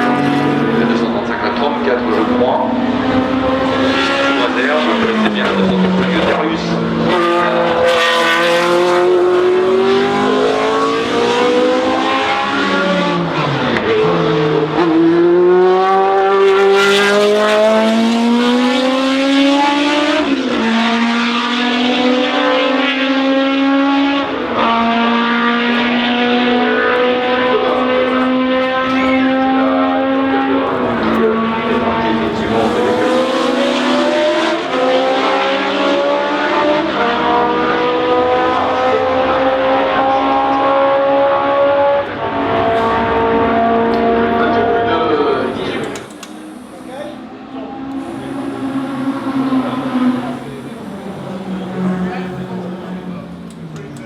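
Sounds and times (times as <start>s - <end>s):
racing car engine accelerating: 0.0s - 54.0s.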